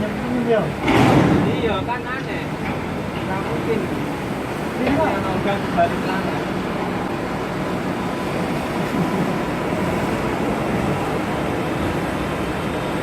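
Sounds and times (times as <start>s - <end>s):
steady rumbling: 0.0s - 13.0s.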